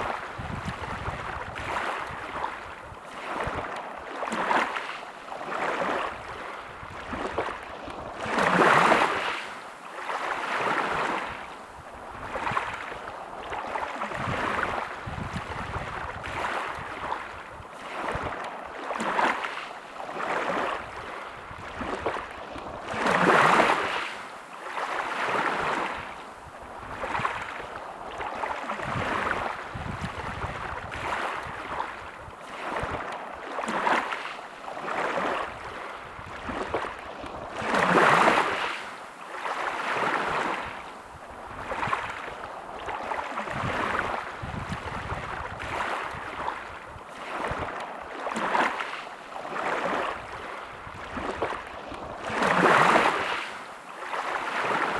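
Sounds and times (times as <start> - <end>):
sea waves washing onto beach: 0.0 - 54.9.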